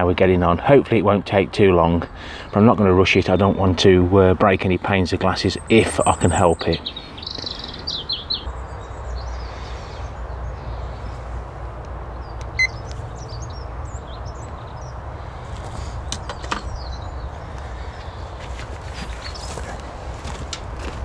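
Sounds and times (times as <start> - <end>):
small birds chirping: 1.9 - 19.9.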